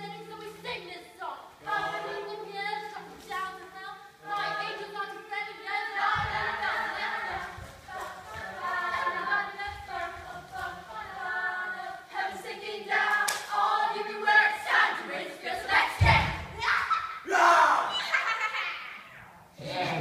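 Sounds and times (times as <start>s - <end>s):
group singing unaccompanied: 0.0s - 16.6s, 19.6s - 20.0s.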